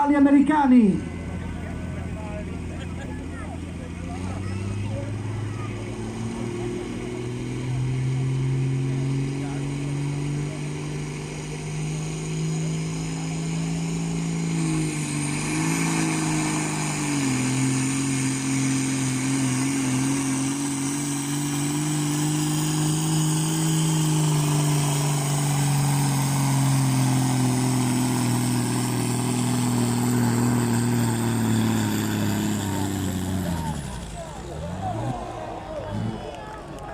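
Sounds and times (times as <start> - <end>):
tractor engine under heavy load: 0.0 - 36.9.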